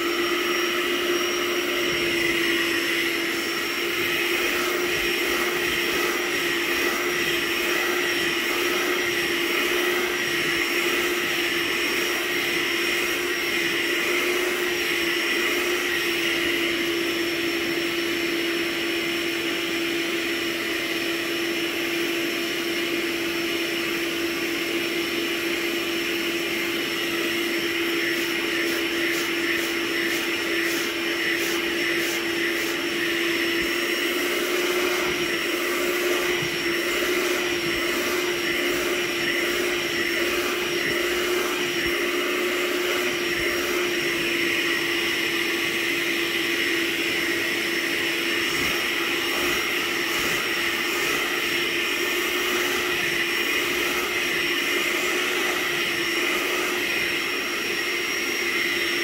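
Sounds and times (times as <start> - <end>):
carpet cleaner suction motor hum: 0.0 - 59.0.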